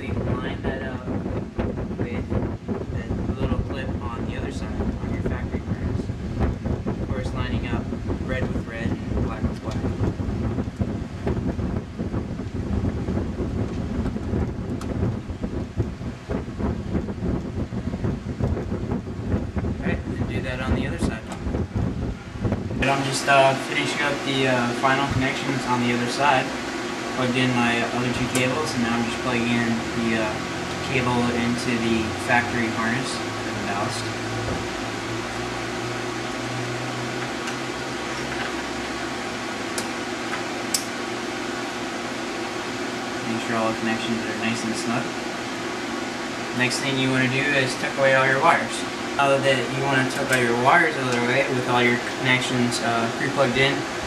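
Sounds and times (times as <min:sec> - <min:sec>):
low mechanical hum with hiss: 0:00.0 - 0:54.0
wind buffeting microphone: 0:00.0 - 0:54.0.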